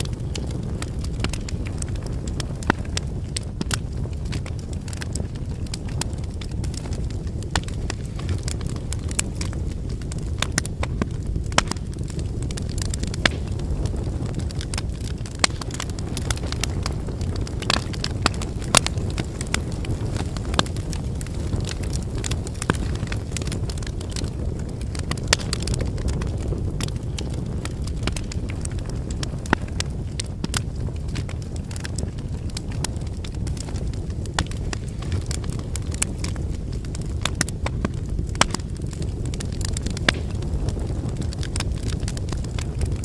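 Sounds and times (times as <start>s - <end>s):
wood fire burning: 0.0s - 43.0s.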